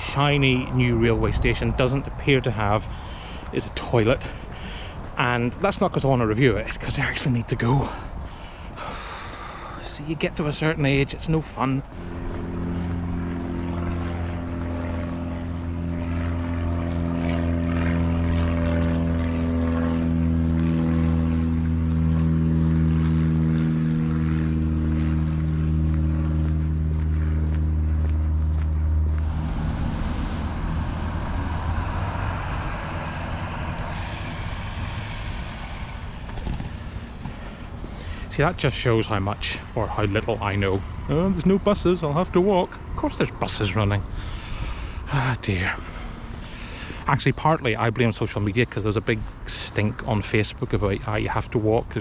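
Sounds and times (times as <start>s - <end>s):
propeller aircraft engines droning: 0.0s - 52.0s.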